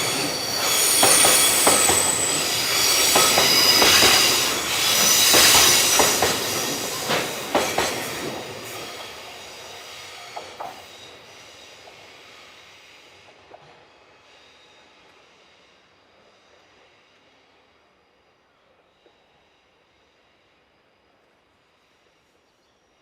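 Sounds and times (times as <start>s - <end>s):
train wheels squealing: 0.0s - 23.0s.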